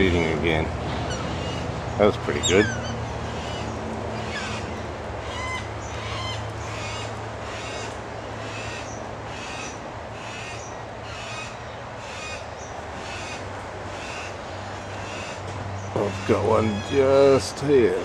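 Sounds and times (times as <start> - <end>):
cockatoo begging calls: 1.0 - 17.9.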